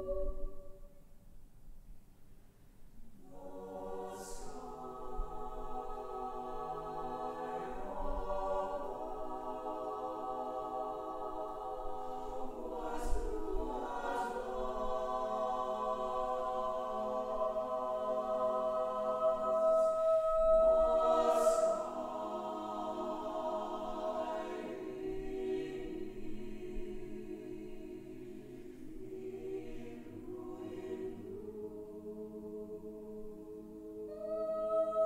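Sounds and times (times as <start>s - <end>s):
choir singing a cappella: 0.0s - 0.9s, 3.0s - 35.0s.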